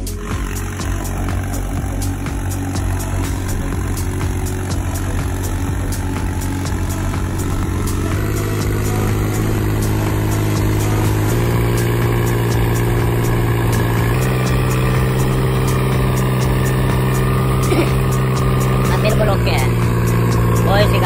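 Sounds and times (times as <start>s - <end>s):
diesel tractor engine revving: 0.0s - 21.0s.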